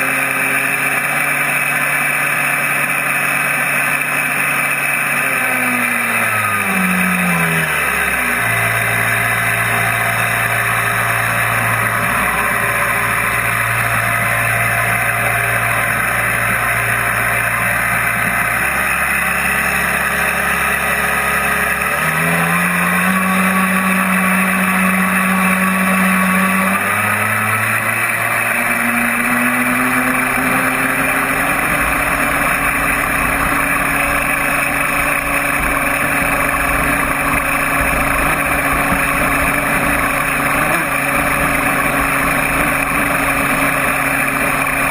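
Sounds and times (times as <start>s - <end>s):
model boat motor whining: 0.0s - 44.9s.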